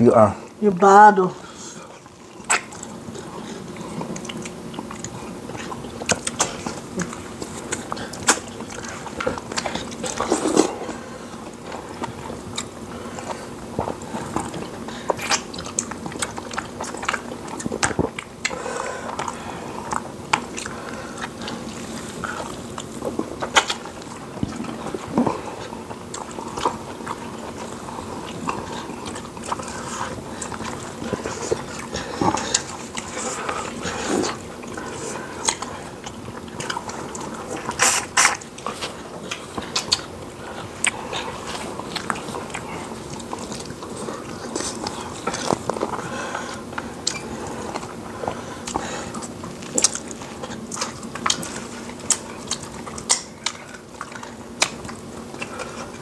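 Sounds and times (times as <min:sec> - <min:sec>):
chewing with wet smacks: 0:00.0 - 0:56.0.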